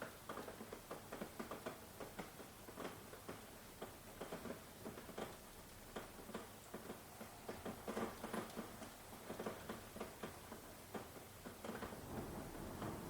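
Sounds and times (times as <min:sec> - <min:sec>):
raindrops pattering: 0:00.0 - 0:13.0.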